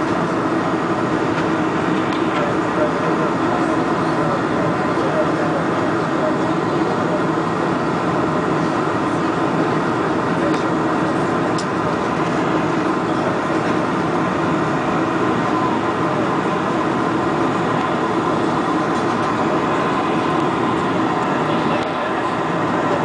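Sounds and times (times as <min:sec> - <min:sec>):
jet cabin roar: 0:00.0 - 0:23.0.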